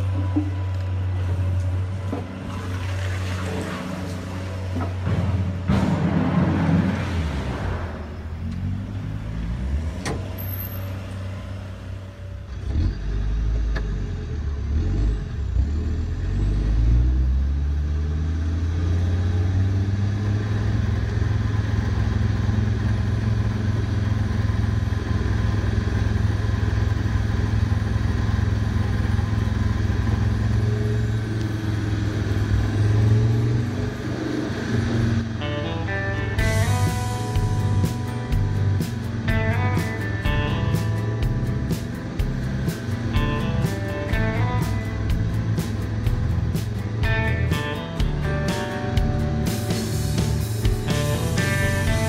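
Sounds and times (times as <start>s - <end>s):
vehicle motor rumbling: 0.0s - 52.0s.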